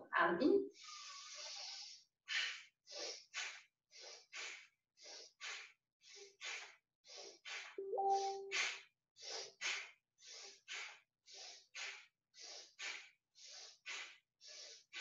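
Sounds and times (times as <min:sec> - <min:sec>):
forceful breathing through nose: 0:00.7 - 0:15.0.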